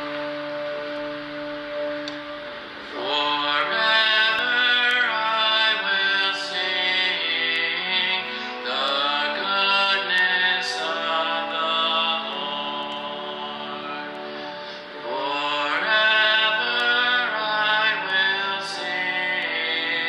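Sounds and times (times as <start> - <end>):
slow sacred choral music: 0.0 - 20.0.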